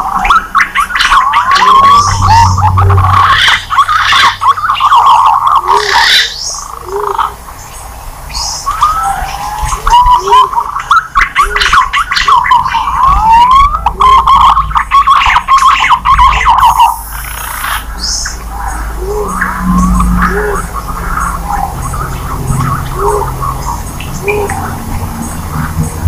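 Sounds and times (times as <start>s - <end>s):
pigeons whistling calls: 0.0s - 7.4s, 8.2s - 26.0s.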